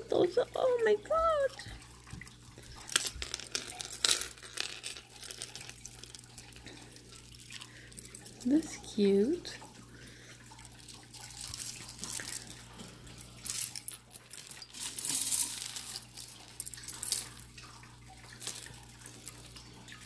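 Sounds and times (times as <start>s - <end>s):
jewelry clinking: 2.6s - 9.6s, 10.5s - 20.0s.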